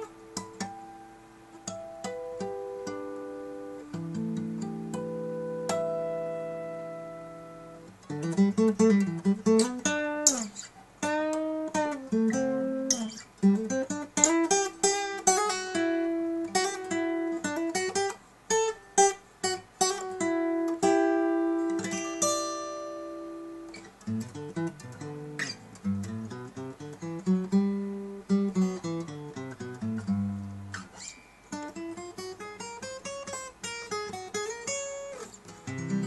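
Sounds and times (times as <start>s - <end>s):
fingerpicked nylon-string guitar: 0.0s - 36.0s.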